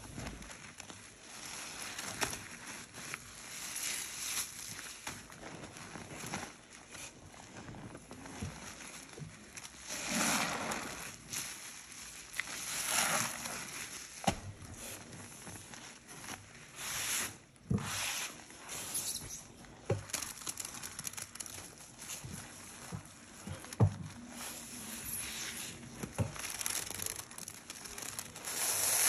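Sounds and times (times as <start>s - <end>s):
sponge squelching in foam: 1.1s - 29.0s.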